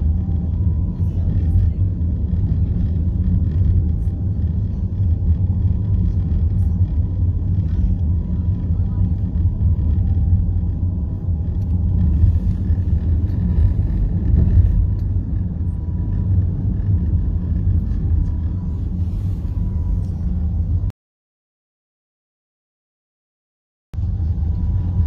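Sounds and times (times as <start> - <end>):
road and engine rumble in car: 0.0 - 20.9, 24.0 - 25.0.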